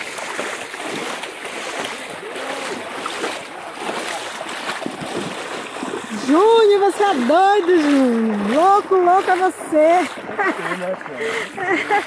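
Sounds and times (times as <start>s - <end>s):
river water rushing and splashing: 0.0s - 12.0s.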